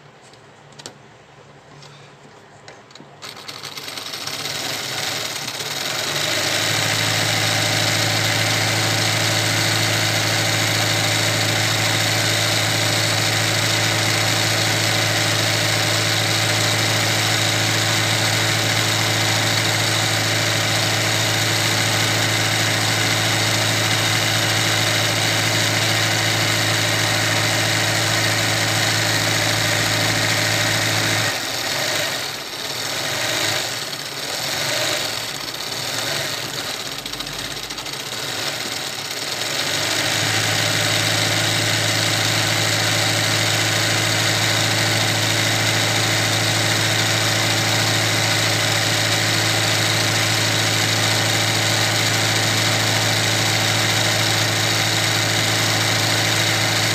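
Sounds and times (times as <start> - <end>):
sewing machine running: 3.2 - 56.9.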